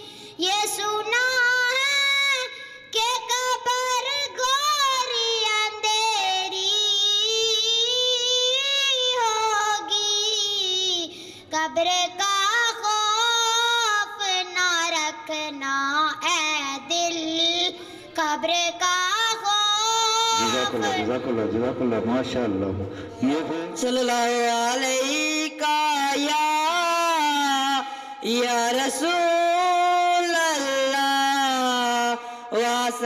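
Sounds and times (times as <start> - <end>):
boy singing unaccompanied: 0.0 - 21.2, 23.8 - 33.0.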